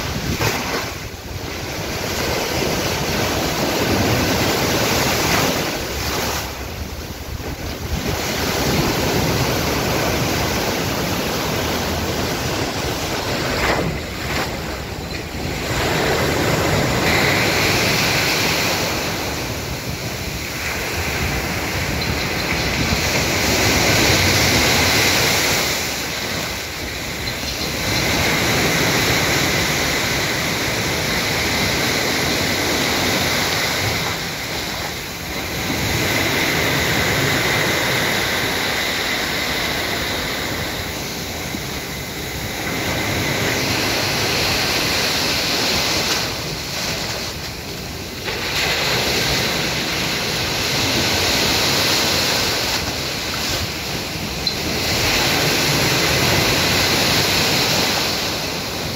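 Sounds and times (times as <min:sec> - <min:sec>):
sea surf breaking: 0:00.0 - 0:58.9.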